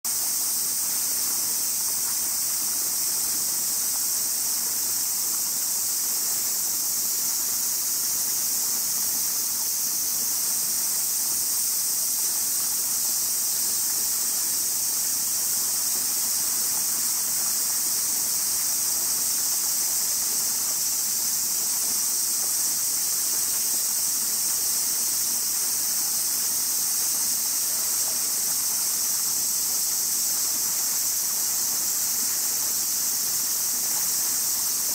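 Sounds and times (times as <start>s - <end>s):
cicadas singing: 0.1s - 34.9s.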